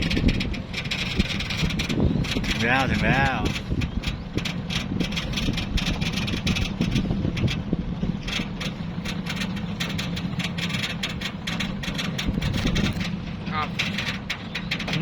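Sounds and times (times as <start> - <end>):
boat engine low drone: 0.0 - 15.0.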